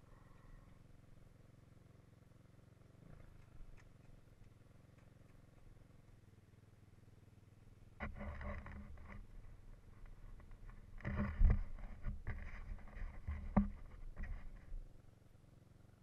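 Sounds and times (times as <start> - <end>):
atv rumbling and rattling: 0.0 - 16.0.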